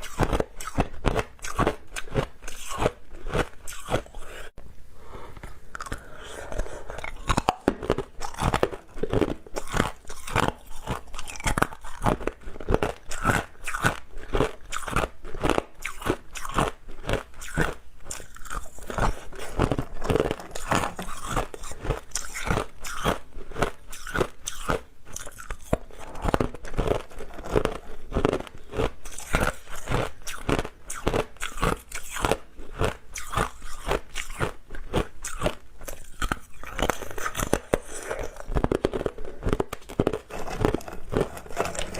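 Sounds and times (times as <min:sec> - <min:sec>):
ice being chewed: 0:00.0 - 0:04.5, 0:05.2 - 0:41.9.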